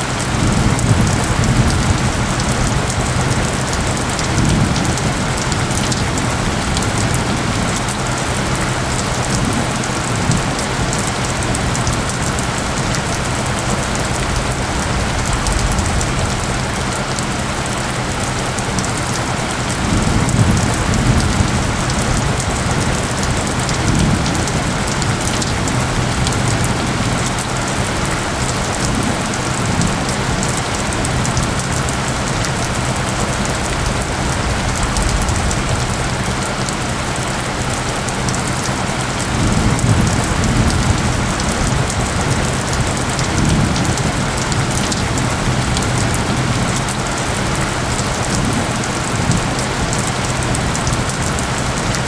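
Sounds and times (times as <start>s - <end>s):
dense rain falling: 0.0s - 52.0s
low steady isochronic tone: 0.0s - 52.0s
thunder rumbles: 0.0s - 52.0s.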